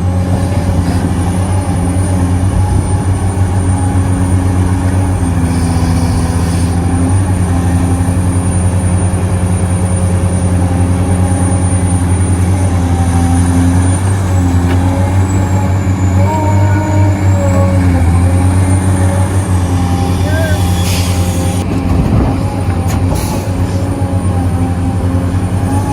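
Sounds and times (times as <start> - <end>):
heavy diesel machinery drone: 0.0 - 25.9.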